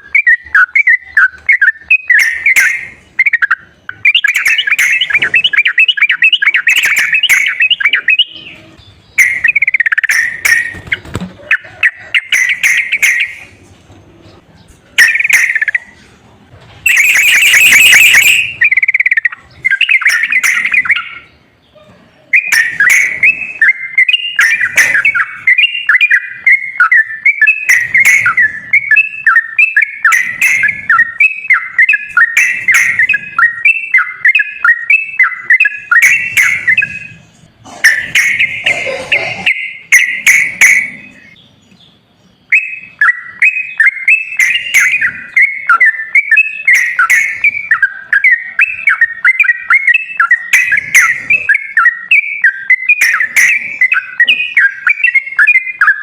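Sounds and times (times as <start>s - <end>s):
bulbul chattering song: 0.0s - 56.0s.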